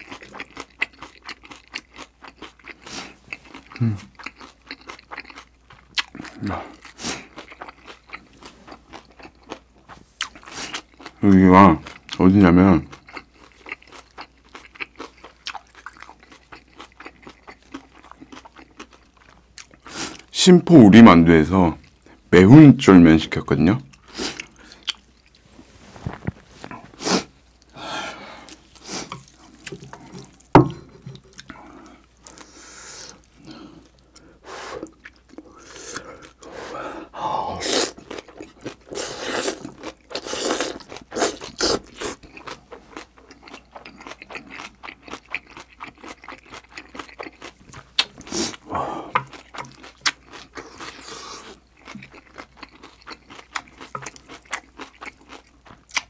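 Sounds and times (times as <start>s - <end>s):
noodles slurped and chewed: 0.0s - 9.6s, 12.9s - 20.3s, 26.6s - 30.5s, 31.1s - 56.0s.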